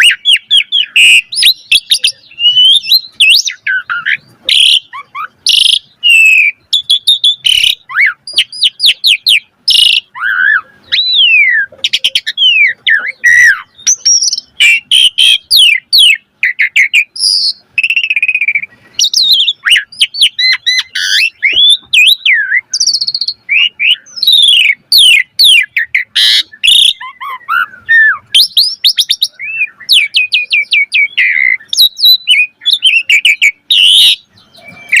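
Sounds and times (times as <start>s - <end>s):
myna bird singing: 0.0s - 35.0s.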